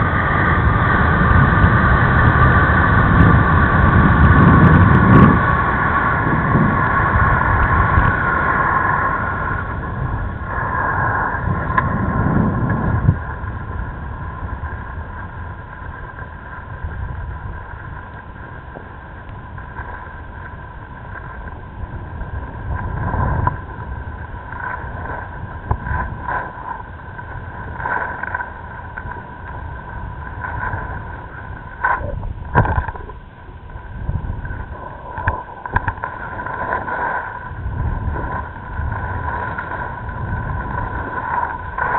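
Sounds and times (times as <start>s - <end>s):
skis sliding over snow: 0.0s - 41.9s
wind on microphone: 0.0s - 41.9s.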